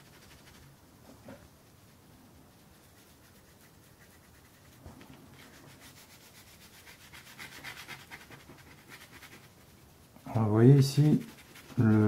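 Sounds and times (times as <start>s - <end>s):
paintbrush scrubbing on paper: 0.0s - 0.8s, 1.6s - 12.0s.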